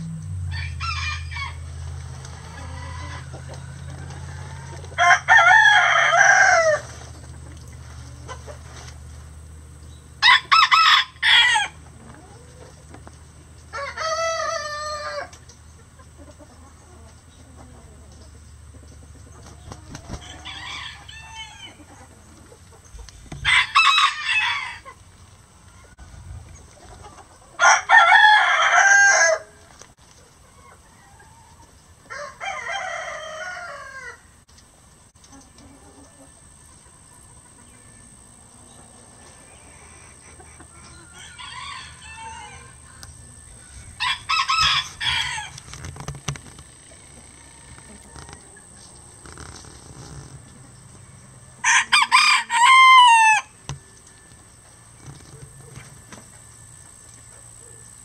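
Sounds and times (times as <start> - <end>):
roosters crowing: 0.0 - 7.4, 10.1 - 18.1, 19.0 - 29.8, 30.6 - 34.5, 35.6 - 58.0.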